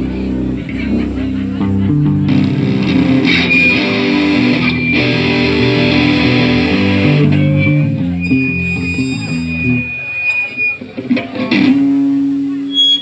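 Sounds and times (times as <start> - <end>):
electric guitars and bass riff: 0.0 - 13.0.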